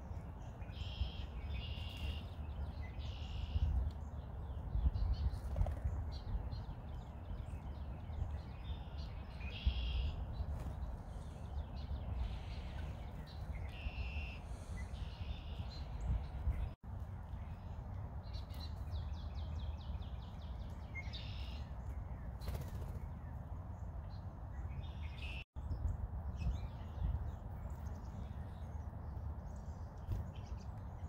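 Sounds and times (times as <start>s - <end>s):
songbirds calling: 0.0s - 31.0s.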